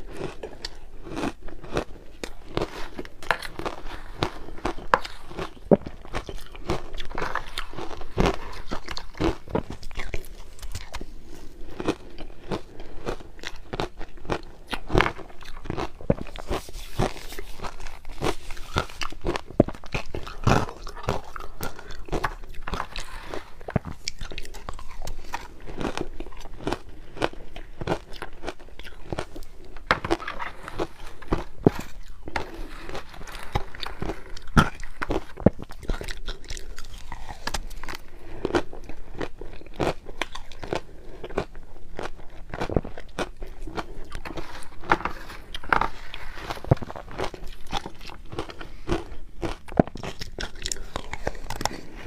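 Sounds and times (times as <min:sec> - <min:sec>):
ice crunching being chewed: 0:00.0 - 0:52.0.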